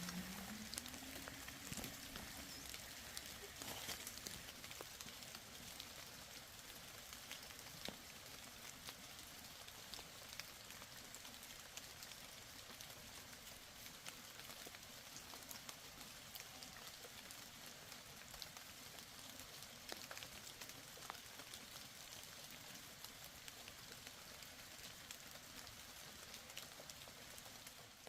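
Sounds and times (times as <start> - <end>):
faint background hiss: 0.0 - 28.0.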